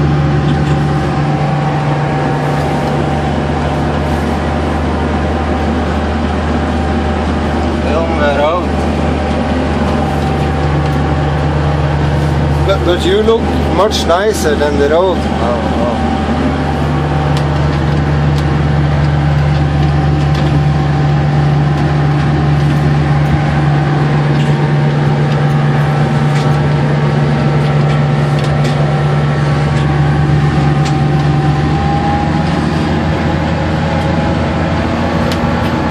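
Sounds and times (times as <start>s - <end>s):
boat engine droning: 0.0s - 35.9s.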